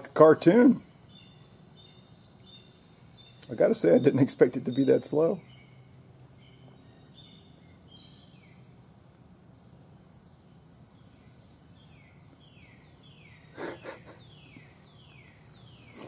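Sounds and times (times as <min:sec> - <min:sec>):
bird chirping: 0:00.0 - 0:08.8, 0:10.4 - 0:16.0.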